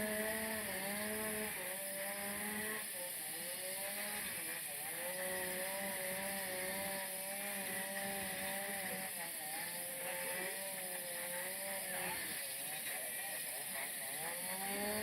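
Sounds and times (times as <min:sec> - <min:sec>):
small engine running at high speed: 0:00.0 - 0:15.0.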